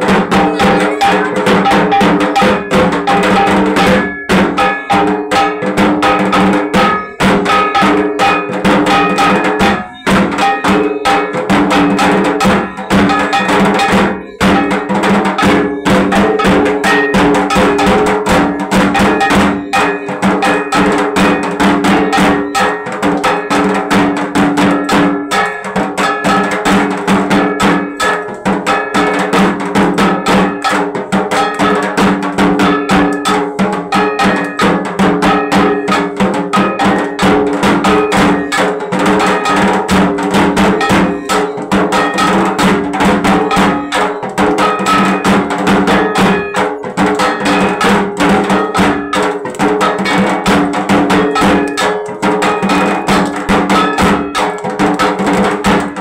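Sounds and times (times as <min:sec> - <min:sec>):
drums beaten in fast rhythm: 0:00.0 - 0:56.0
metal percussion clanging: 0:00.0 - 0:56.0.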